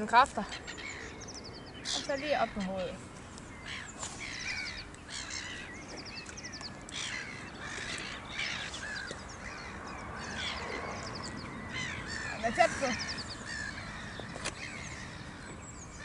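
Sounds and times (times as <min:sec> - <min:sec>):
wild birds calling: 0:00.0 - 0:16.0
high bird trills: 0:00.4 - 0:16.0.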